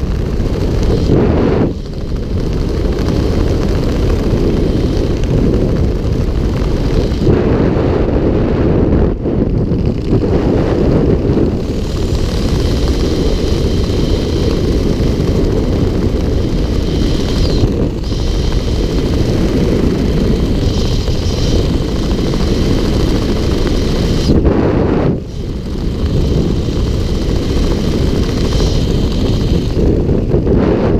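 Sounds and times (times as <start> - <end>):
wind noise on microphone: 0.0 - 30.9.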